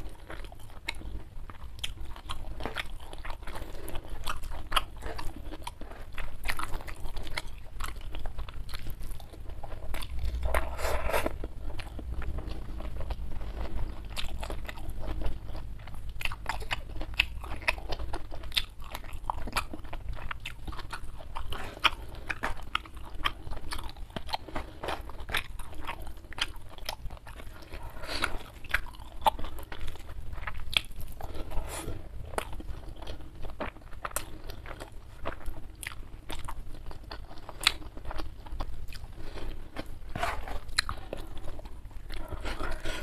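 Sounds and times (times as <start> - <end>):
chewing with wet smacks: 0.0 - 10.7, 11.3 - 43.0.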